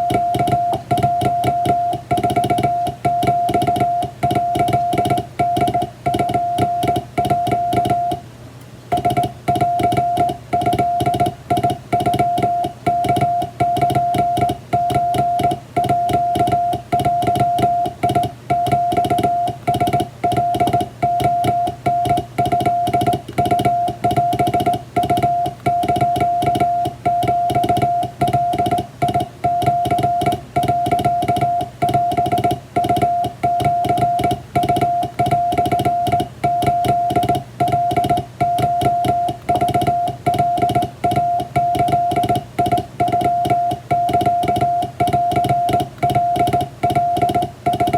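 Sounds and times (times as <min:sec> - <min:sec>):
morse code beeps: 0:00.0 - 0:08.2, 0:08.9 - 0:47.9.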